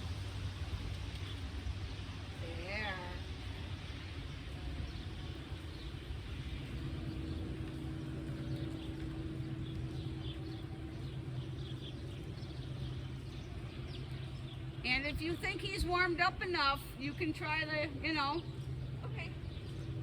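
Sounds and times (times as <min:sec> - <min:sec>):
low rumble: 0:00.0 - 0:20.0
steady hum: 0:00.0 - 0:20.0.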